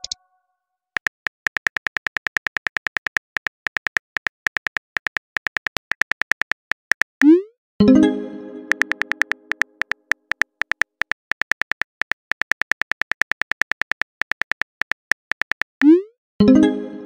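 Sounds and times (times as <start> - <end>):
phone keyboard typing clicks: 0.0 - 0.2, 1.0 - 7.3, 8.7 - 15.9.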